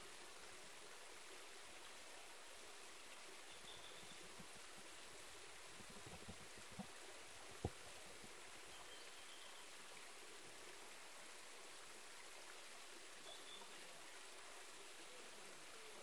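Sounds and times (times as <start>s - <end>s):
stream trickling over rock: 0.0s - 16.0s.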